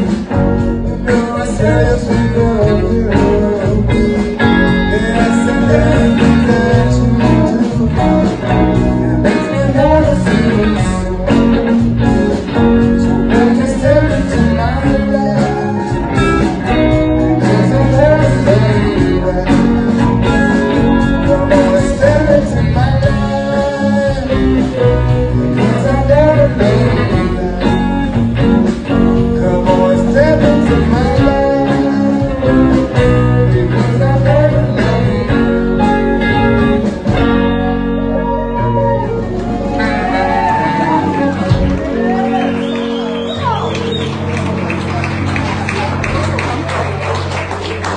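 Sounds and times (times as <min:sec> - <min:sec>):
live blues band playing: 0:00.0 - 0:47.9.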